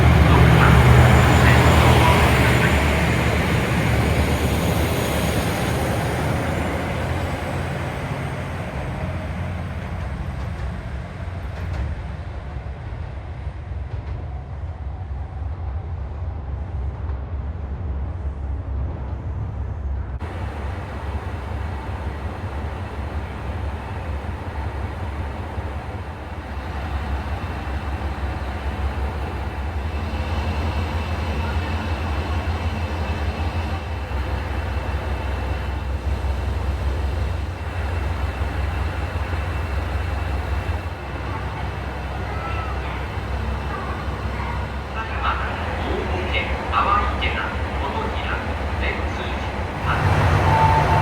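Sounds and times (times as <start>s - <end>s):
diesel engine low rumble: 0.0s - 51.0s.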